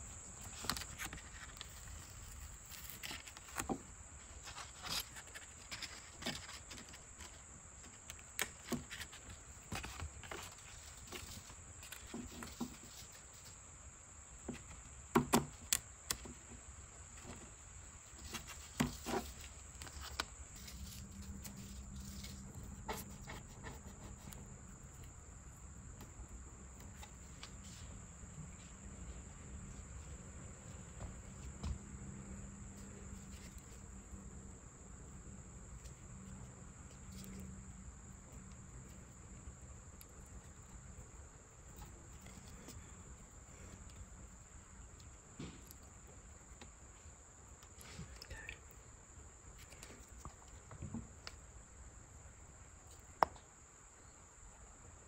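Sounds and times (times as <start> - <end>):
faint high-pitched whine: 0.0 - 55.0.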